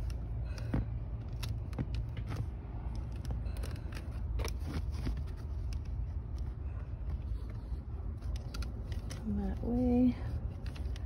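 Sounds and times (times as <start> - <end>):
paper crinkling: 2.1 - 11.0.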